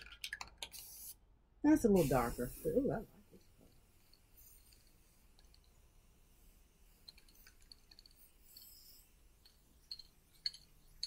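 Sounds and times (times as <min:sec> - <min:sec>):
aerosol spray can hiss: 0:00.6 - 0:01.2, 0:01.8 - 0:11.0.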